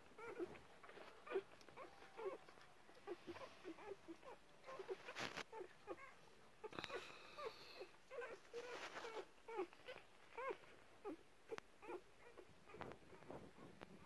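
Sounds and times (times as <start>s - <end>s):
puppies squeaking and whimpering: 0.1s - 14.0s.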